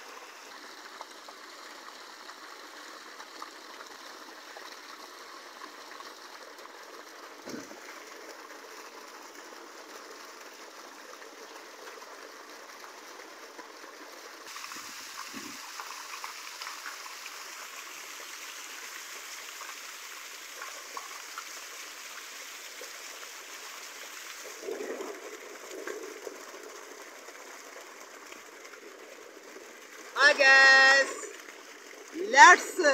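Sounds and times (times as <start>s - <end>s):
running water splashing in a pool: 0.0s - 32.9s.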